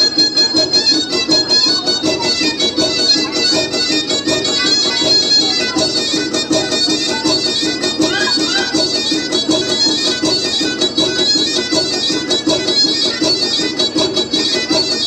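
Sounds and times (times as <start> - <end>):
fast folk dance fiddle music: 0.0 - 15.0.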